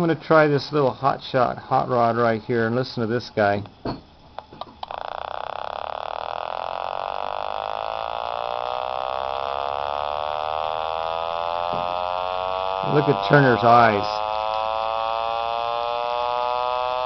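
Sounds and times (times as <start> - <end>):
buzzing tone shifting pitch: 2.1 - 17.0.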